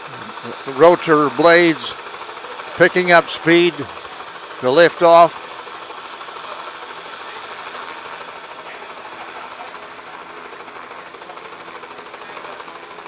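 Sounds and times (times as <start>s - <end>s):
helicopter rotor spinning up: 0.0s - 13.0s.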